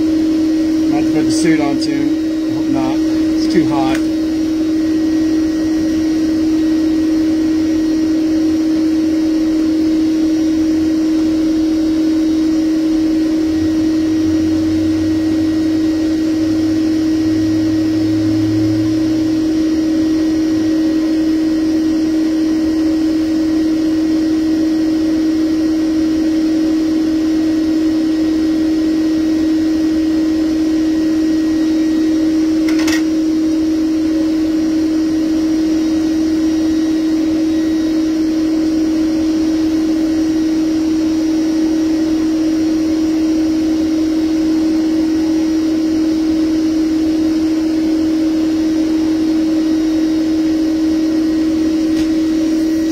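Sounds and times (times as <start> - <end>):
vacuum motor humming: 0.0 - 52.9.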